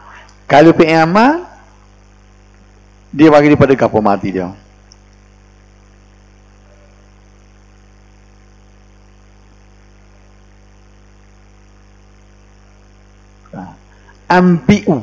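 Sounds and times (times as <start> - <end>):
electrical mains hum: 0.0 - 15.0
faint hiss: 0.0 - 15.0.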